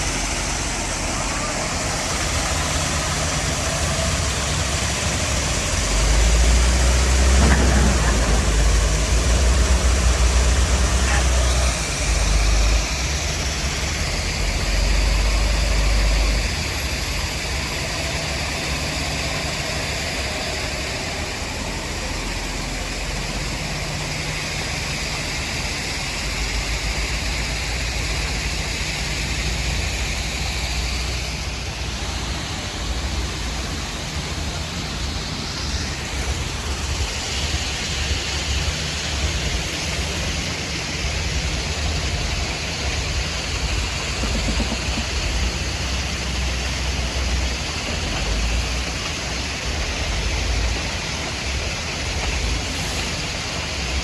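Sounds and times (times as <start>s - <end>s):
heavy machinery engine rumble: 0.0s - 54.0s.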